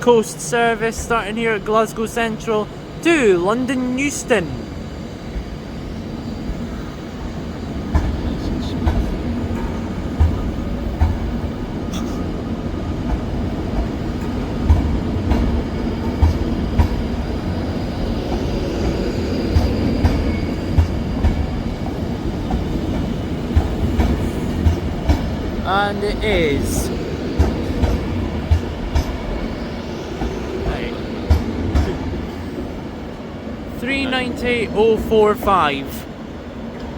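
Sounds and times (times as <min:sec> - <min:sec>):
electric train rumble: 0:00.0 - 0:36.9.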